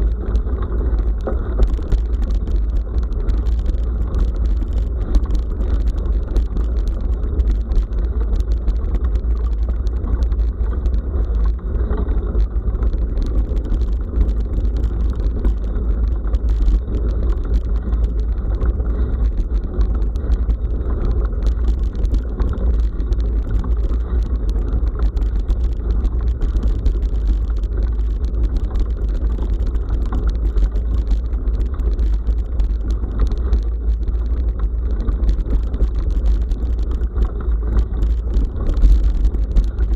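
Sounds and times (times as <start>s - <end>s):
bike clicks and rattles: 0.0s - 39.9s
wind rumble: 0.0s - 39.9s.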